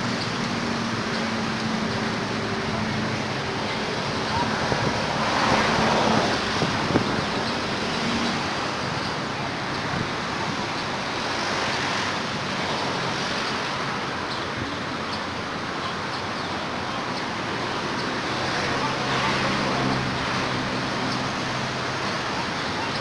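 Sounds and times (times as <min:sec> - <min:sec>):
road traffic engine hum: 0:00.0 - 0:23.0.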